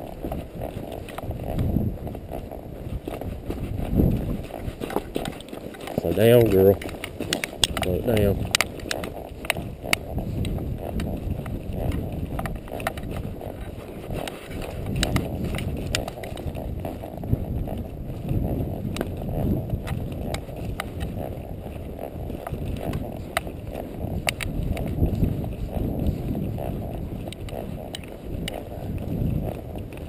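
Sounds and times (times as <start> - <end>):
horse hooves clopping on trail: 0.0 - 30.0
wind buffeting microphone: 0.0 - 30.0.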